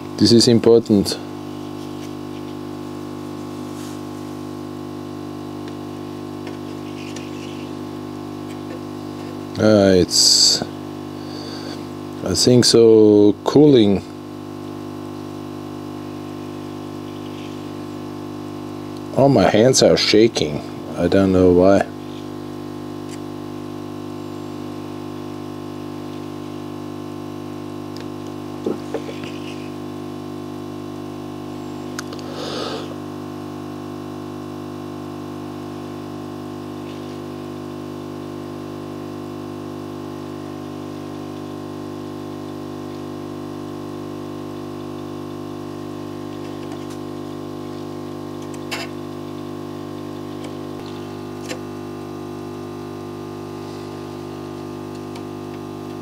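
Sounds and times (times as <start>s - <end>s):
hot-air blower humming: 0.0s - 56.0s.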